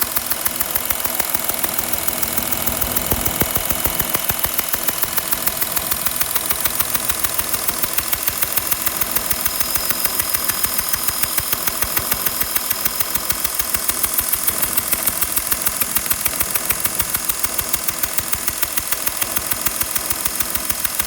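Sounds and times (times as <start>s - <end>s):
sharp ticking puffing: 0.0s - 21.0s.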